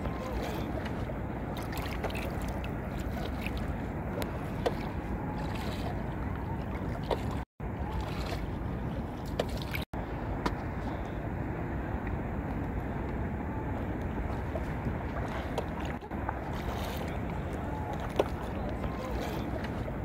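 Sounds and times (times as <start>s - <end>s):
boat engine rumble: 0.0s - 20.0s
wind on microphone: 0.0s - 20.0s.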